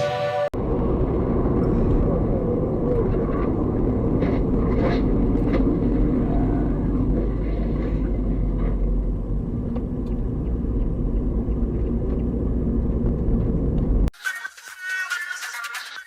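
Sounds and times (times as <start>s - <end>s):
car driving on road: 0.5s - 14.1s.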